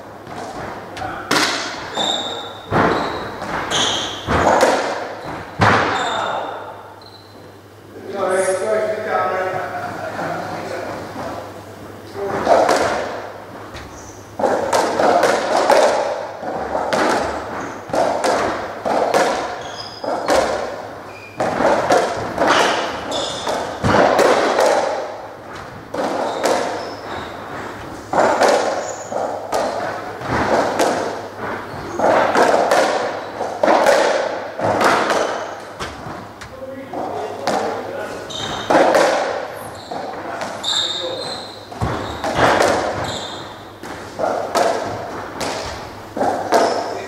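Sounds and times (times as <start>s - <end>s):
ball hitting rackets and walls: 0.0s - 7.4s, 12.1s - 47.0s.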